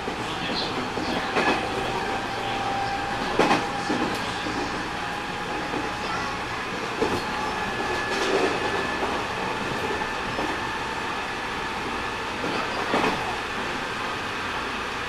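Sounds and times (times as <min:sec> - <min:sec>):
electric train running: 0:00.0 - 0:15.0.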